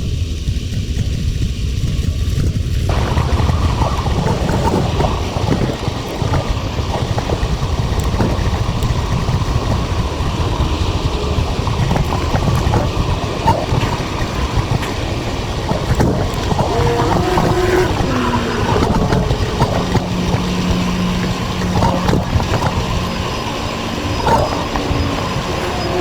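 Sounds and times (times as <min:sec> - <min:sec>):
small clicks and rattles: 0:00.0 - 0:26.0
wind buffeting microphone: 0:00.0 - 0:26.0.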